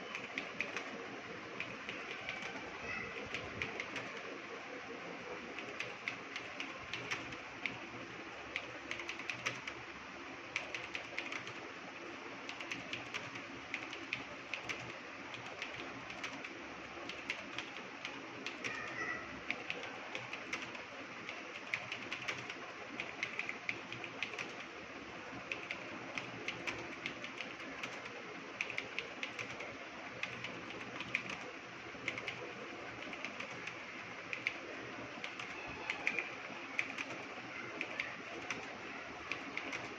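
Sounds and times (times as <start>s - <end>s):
keyboard typing: 0.0s - 4.3s, 5.4s - 9.8s, 10.5s - 11.7s, 12.4s - 39.9s.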